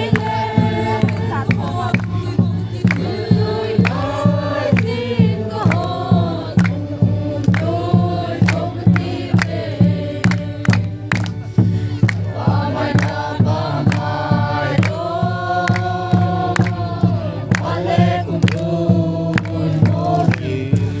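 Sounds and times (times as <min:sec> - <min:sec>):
group singing: 0:00.0 - 0:11.4, 0:12.0 - 0:21.0
steady beat: 0:00.0 - 0:21.0.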